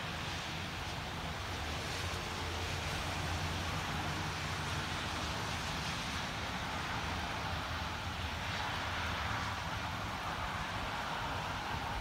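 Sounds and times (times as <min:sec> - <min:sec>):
snow and rain falling: 0:00.0 - 0:12.0.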